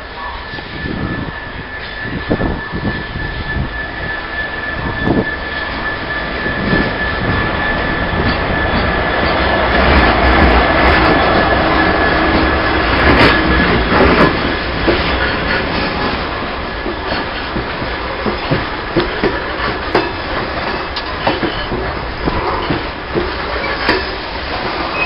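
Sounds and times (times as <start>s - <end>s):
diesel locomotive passing: 0.0s - 25.0s
high engine whine: 0.0s - 25.0s
freight wagons rumbling: 0.8s - 25.0s
wheels clacking: 4.4s - 25.0s.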